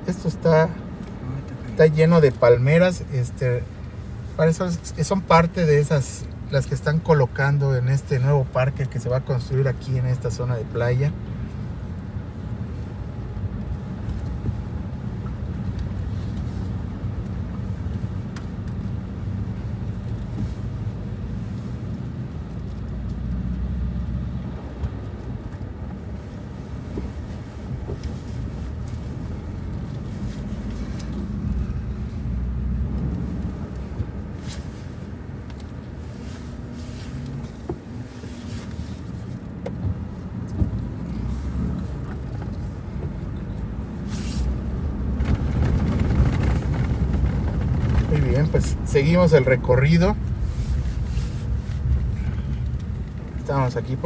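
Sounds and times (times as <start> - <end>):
road rumble: 0.0 - 54.0
car engine running: 8.4 - 54.0.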